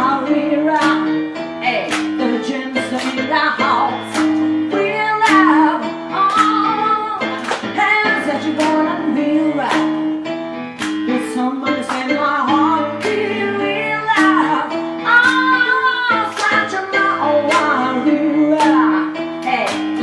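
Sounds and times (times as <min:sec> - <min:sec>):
woman singing soul: 0:00.0 - 0:10.1, 0:11.0 - 0:20.0
held keyboard chords: 0:00.0 - 0:20.0.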